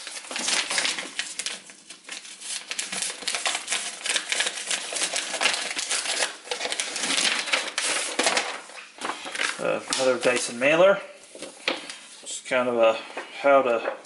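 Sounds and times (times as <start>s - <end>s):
paper and cardboard rustling: 0.0s - 14.0s.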